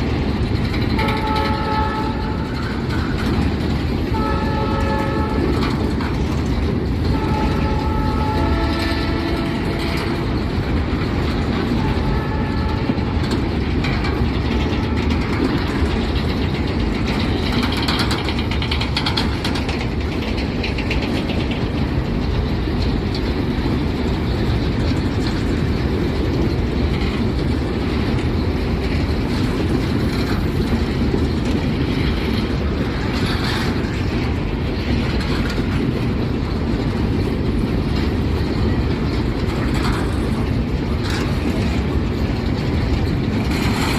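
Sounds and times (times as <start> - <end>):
train wagons clanking: 0.0 - 43.9
train wheels rumbling on rails: 0.0 - 43.9.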